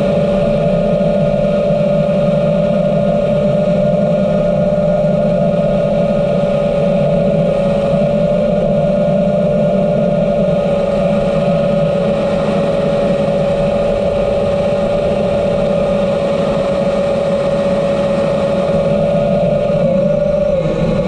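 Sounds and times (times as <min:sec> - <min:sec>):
drone motors whining: 0:00.0 - 0:21.0
rushing air: 0:00.0 - 0:21.0.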